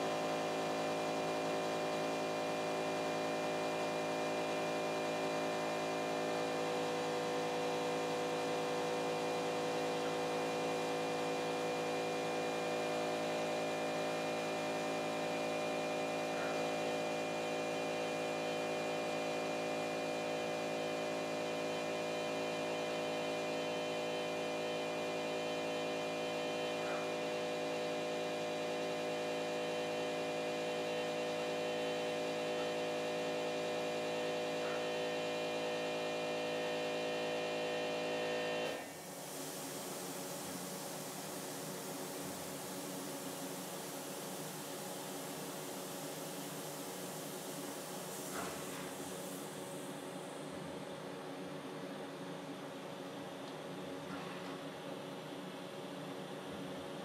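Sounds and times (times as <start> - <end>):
stepper motors electrical hum: 0.0 - 51.2.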